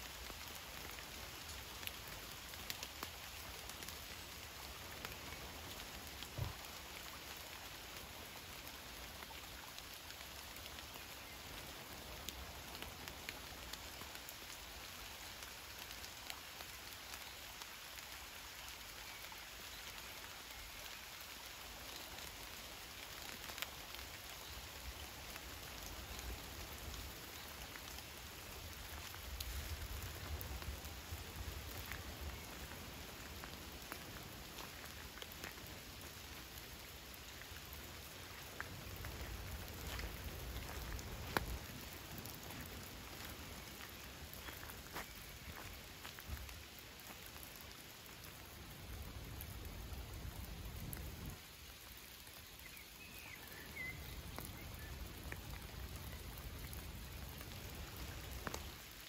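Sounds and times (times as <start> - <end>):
rain falling on water: 0.0 - 59.0.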